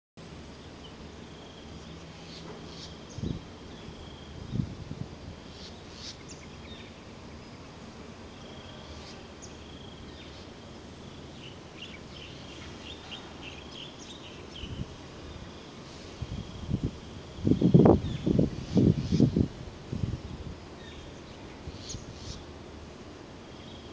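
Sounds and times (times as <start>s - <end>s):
birds chirping: 0.5s - 4.7s, 5.3s - 19.4s, 20.1s - 22.6s.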